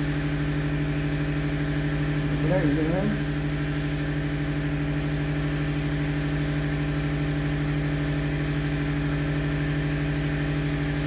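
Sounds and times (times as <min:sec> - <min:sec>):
power generator humming: 0:00.0 - 0:11.0.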